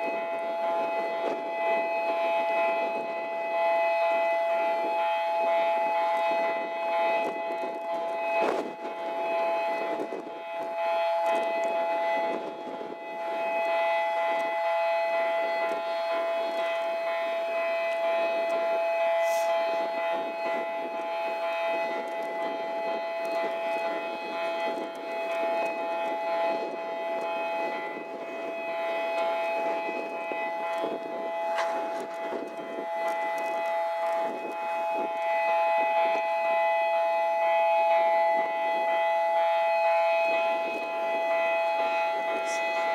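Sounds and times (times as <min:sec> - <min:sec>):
two-tone warning siren: 0:00.0 - 0:42.9
wind on microphone: 0:00.0 - 0:42.9.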